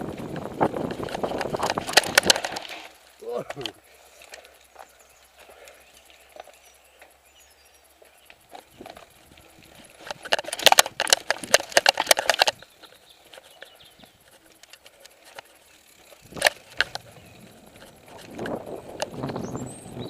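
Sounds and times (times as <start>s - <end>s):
mountain bike clattering: 0.0s - 20.0s.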